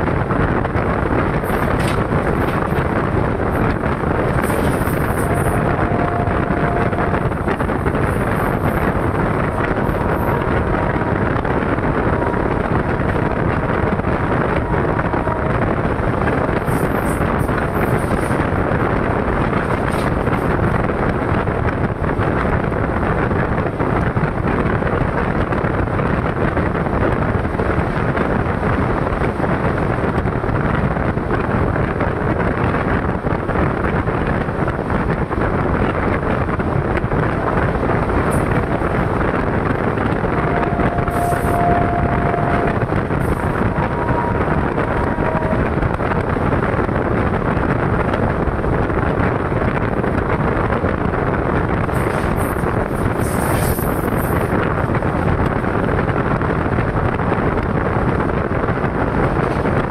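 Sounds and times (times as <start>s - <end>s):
wind rushing: 0.0s - 23.0s, 33.8s - 59.9s
train wheels on rails: 0.0s - 59.9s
wind buffeting microphone: 0.0s - 59.9s.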